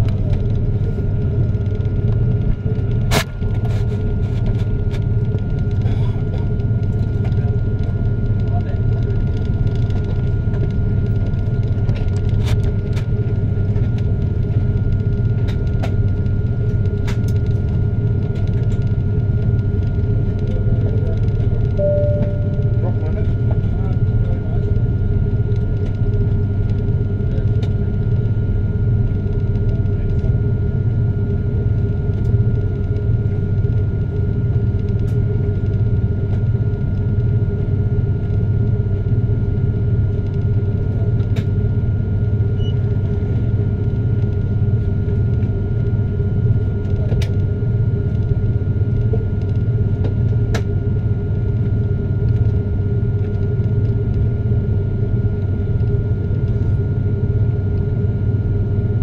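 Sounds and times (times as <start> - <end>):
airliner engines rumbling: 0.0 - 59.0
thin steady whine: 0.0 - 59.0.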